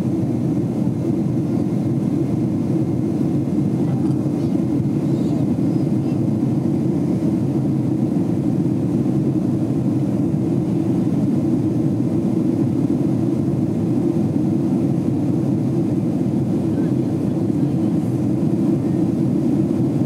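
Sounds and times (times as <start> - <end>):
airplane cabin engine drone: 0.0 - 20.0.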